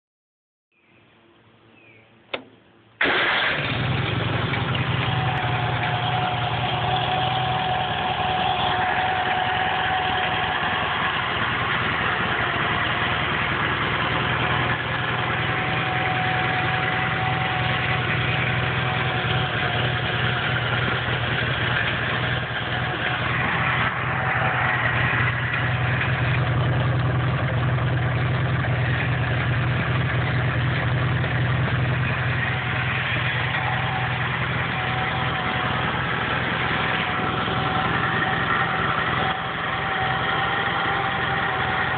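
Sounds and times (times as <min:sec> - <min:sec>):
garden tractor engine idling: 0:02.3 - 0:41.9.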